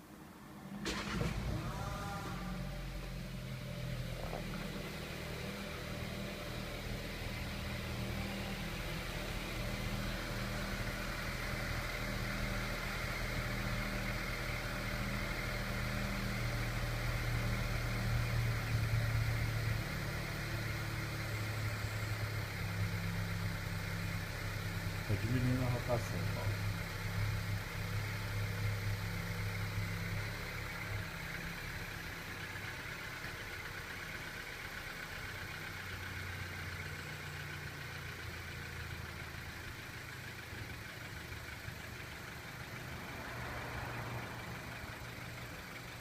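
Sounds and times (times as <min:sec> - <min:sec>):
car engine cranking and starting: 0:00.0 - 0:46.0
engine fast idle: 0:00.1 - 0:46.0.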